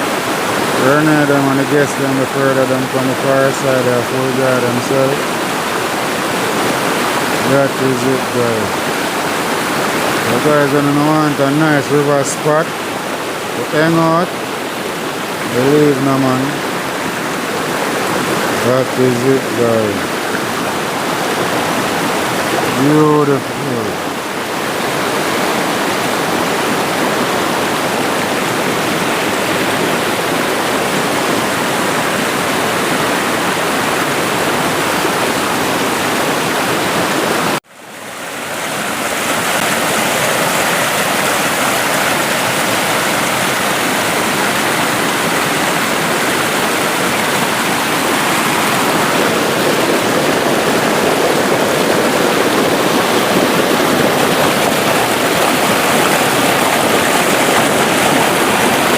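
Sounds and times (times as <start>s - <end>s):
river water rushing over rocks: 0.0s - 58.9s.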